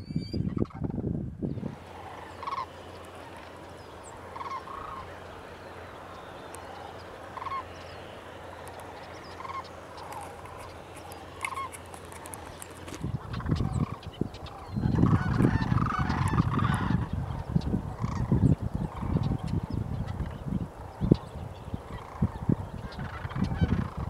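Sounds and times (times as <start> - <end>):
cranes calling: 0.0 - 24.0
steady background hiss: 1.2 - 24.0.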